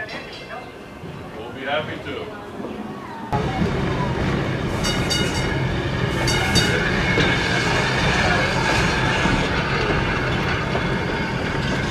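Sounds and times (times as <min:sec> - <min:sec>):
wheels rumbling on rails: 0:00.0 - 0:11.9.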